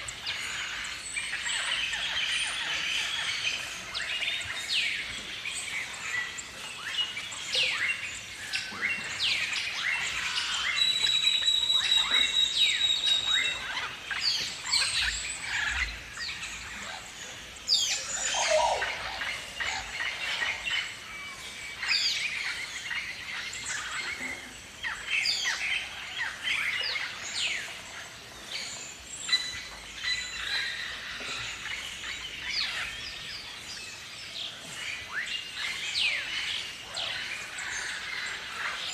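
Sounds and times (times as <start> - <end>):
birds chirping calls: 0.0 - 38.9.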